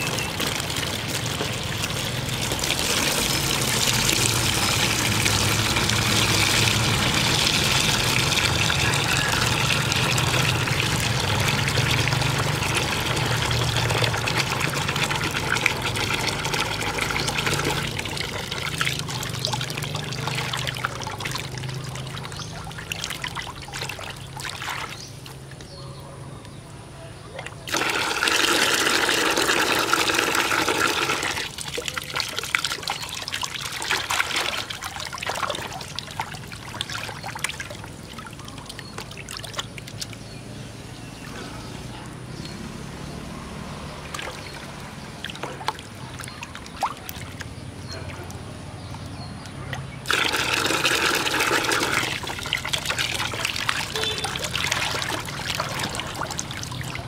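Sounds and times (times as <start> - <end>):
water pouring into a basin: 0.0 - 25.5, 27.3 - 57.0
hand stirring water: 0.0 - 25.6, 27.3 - 40.5, 43.9 - 57.0.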